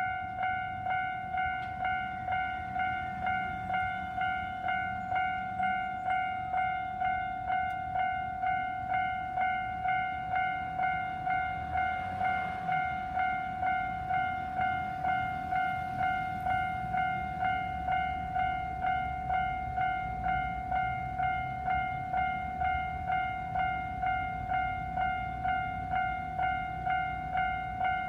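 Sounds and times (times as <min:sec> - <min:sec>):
crossing warning bell ringing: 0:00.0 - 0:28.0
train rumbling: 0:00.0 - 0:28.0.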